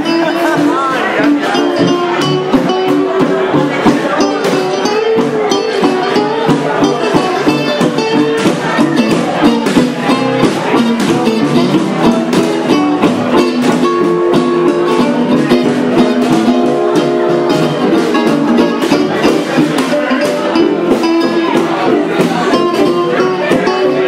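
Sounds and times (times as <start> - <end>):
gypsy jazz on acoustic guitars: 0.0 - 24.0.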